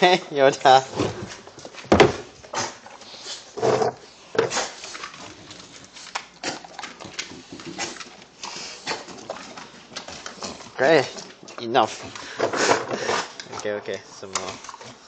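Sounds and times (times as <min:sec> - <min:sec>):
dog chewing and snuffling: 0:00.9 - 0:15.0.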